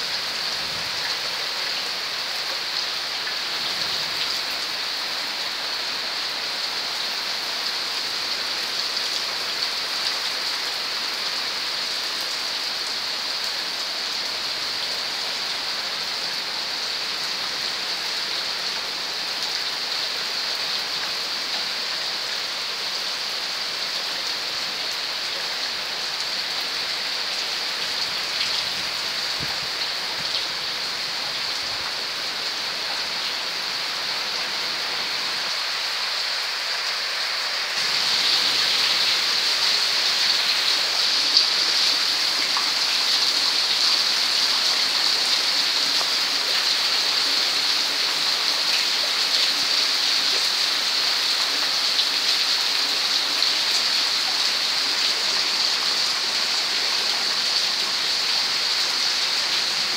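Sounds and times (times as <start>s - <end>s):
heavy rain on paving and roof: 0.0s - 59.9s
water streaming off roof: 0.0s - 59.9s.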